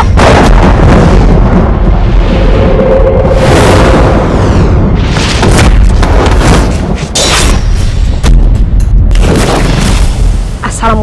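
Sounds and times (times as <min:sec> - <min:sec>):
booming rumble: 0:00.0 - 0:10.9.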